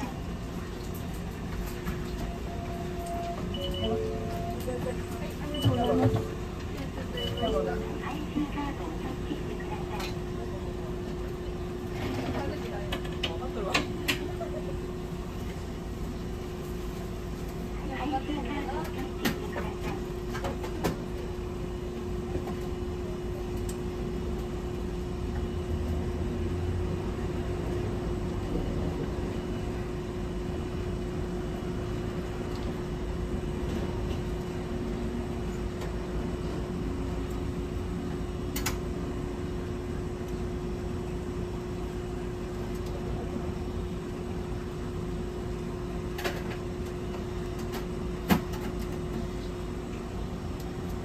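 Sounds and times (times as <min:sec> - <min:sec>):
streetcar steady hum: 0:00.0 - 0:51.0.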